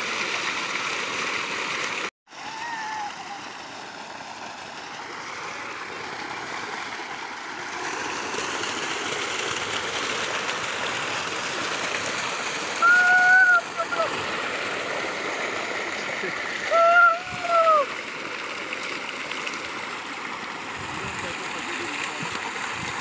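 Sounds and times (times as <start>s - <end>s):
water gushing into tank: 3.4s - 23.0s.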